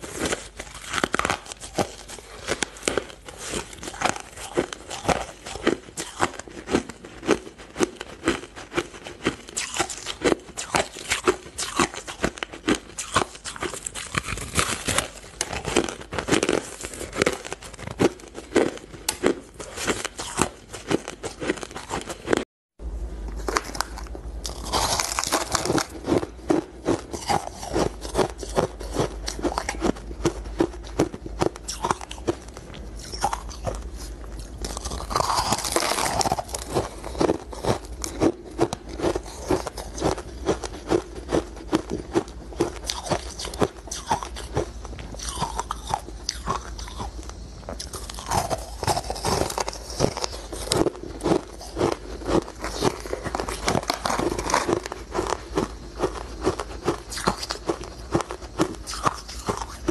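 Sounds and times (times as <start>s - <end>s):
crunching ice: 0.0s - 22.4s, 23.4s - 59.9s
steady low hum: 0.0s - 59.9s.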